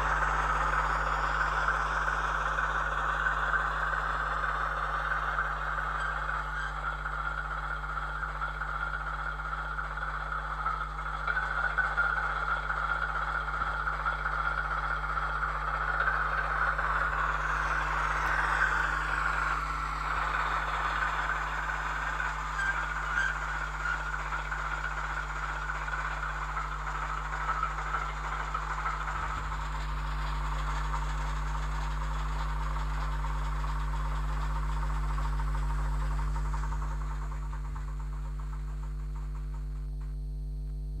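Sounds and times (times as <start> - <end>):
model train motor whir: 0.0 - 39.8
steady electrical hum: 0.0 - 41.0.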